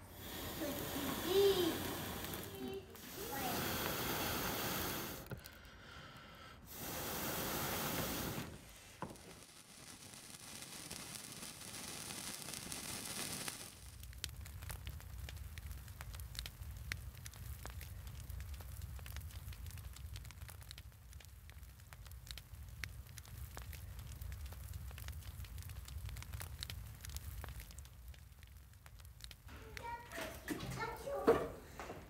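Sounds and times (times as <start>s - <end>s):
blowing on embers: 0.0s - 30.0s
low rumble of flames: 0.0s - 30.1s
fire crackling: 0.0s - 32.0s.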